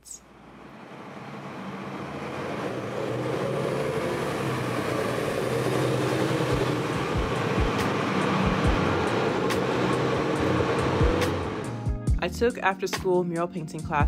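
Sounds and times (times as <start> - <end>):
street traffic: 0.0 - 12.2
bus engine running: 0.0 - 13.9.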